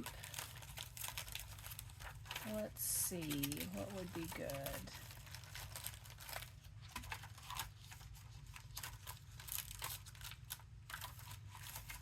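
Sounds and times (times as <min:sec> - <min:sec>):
paper and plastic rustling: 0:00.0 - 0:12.0.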